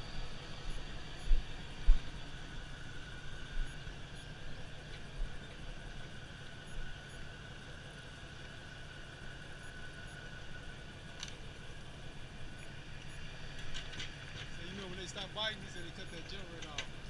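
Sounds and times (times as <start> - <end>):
faint high whine: 0.0 - 17.0
vehicle engine idling: 0.0 - 17.0.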